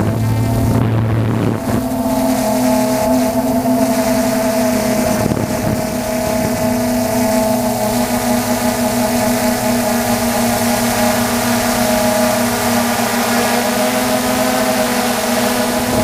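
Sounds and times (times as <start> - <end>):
quadcopter propellers whining: 0.0 - 16.0.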